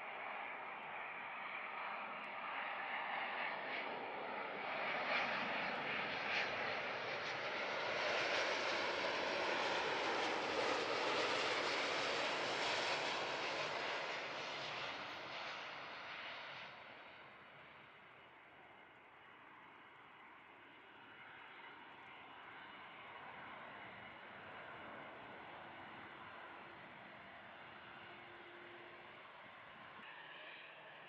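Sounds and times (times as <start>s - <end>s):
jet airliner passing low: 0.0s - 31.0s.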